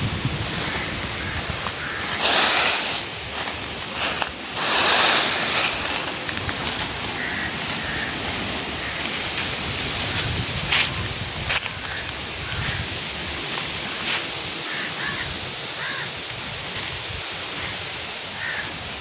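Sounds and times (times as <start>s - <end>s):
breeze blowing with gusts: 0.0s - 19.0s.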